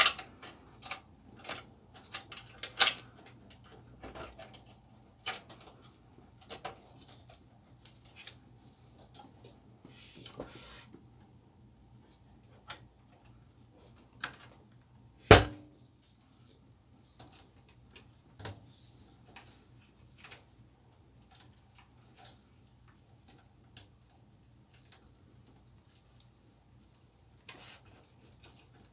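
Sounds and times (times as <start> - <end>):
wires rustling in cable guides: 0.0 - 11.4, 15.7 - 28.9.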